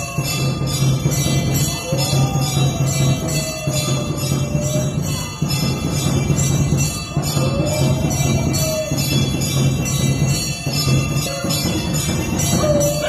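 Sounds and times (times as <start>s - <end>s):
drum beating steadily: 0.0s - 13.0s
temple bells ringing: 0.0s - 13.0s.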